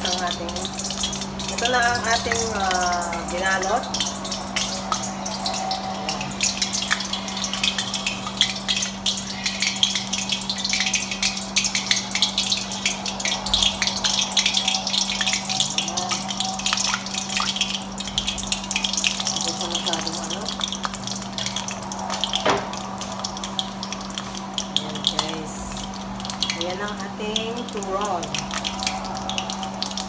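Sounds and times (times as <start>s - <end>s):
crackling sizzle with pops: 0.0s - 30.0s
food frying in hot oil: 0.0s - 30.0s
steady low hum: 0.0s - 30.0s.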